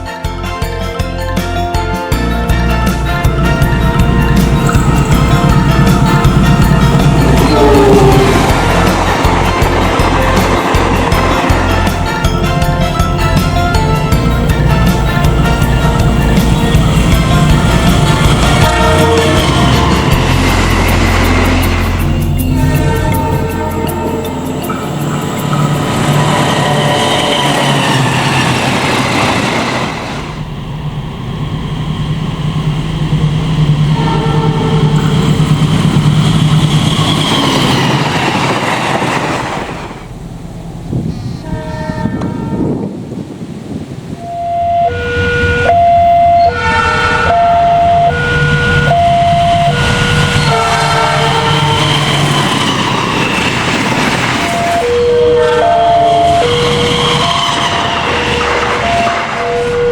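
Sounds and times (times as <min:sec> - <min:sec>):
passing train rumble: 0:01.5 - 0:59.9
locomotive engine drone: 0:02.1 - 0:59.9
wheels rushing on rails: 0:02.3 - 0:59.9.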